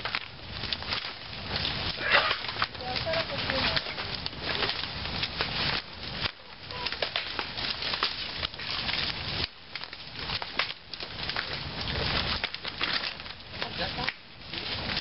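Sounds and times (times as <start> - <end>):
dry wood crackling and snapping: 0.0 - 15.0.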